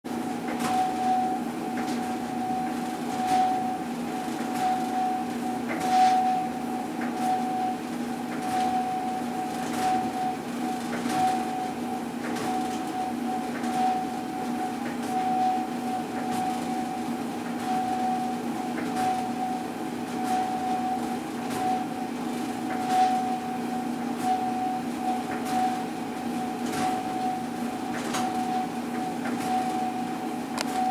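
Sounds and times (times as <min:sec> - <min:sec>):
clothes dryer pulsing whine: 0:00.0 - 0:30.9.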